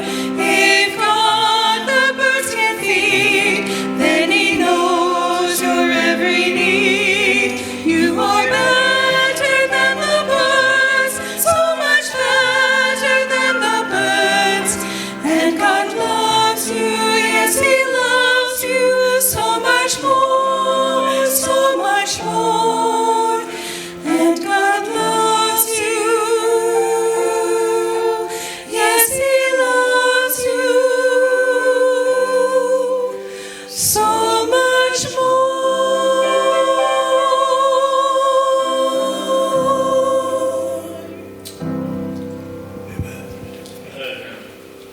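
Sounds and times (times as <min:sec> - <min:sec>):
women's choir singing: 0:00.0 - 0:42.9
piano accompaniment: 0:00.0 - 0:44.9.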